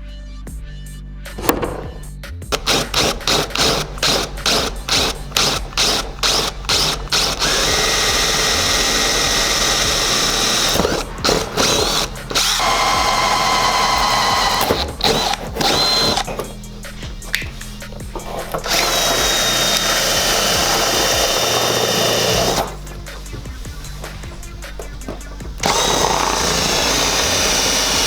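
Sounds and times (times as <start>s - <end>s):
power drill cutting: 2.5s - 28.0s.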